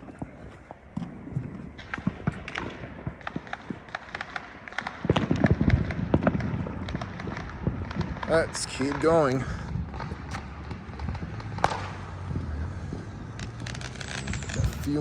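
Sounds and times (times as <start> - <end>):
firecrackers popping: 0.0 - 15.0.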